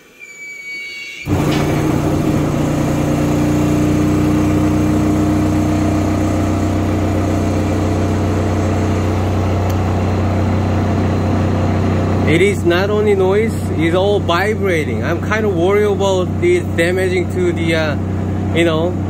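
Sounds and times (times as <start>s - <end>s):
washing machine droning: 1.2s - 19.0s.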